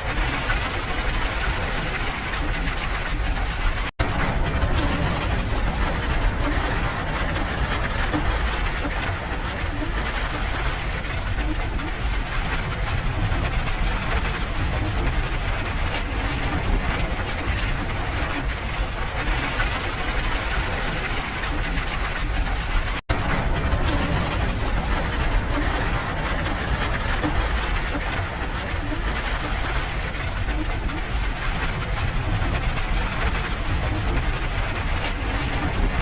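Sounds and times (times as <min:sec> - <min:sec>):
deep rumble: 0:00.0 - 0:36.0
rain: 0:00.0 - 0:36.0.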